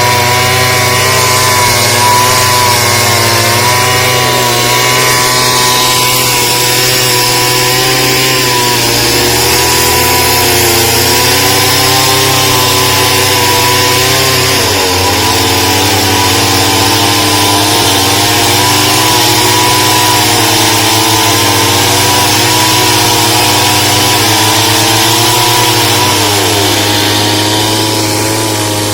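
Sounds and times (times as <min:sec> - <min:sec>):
chainsaw engine cutting: 0:00.0 - 0:28.9.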